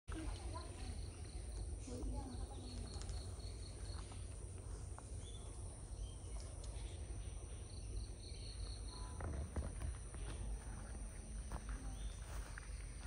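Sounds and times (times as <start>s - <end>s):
insects chirping: 0.1s - 13.0s.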